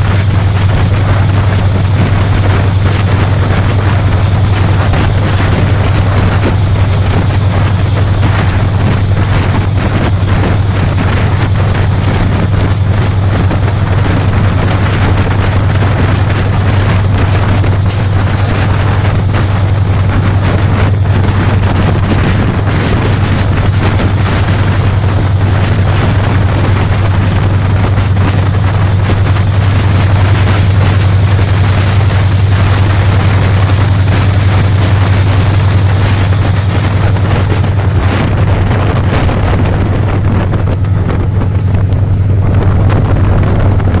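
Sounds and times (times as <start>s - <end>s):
locomotive engine drone: 0.0s - 44.0s
wheel and rail noise: 0.0s - 44.0s.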